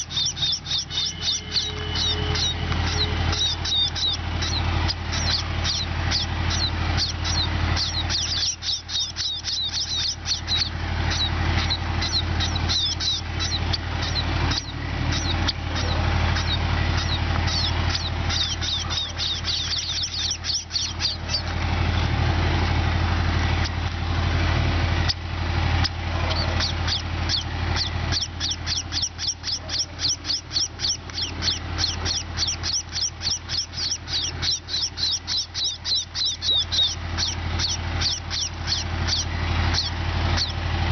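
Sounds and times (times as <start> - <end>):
sparrows chirping: 0.0 - 40.9
steady low hum: 0.0 - 40.9.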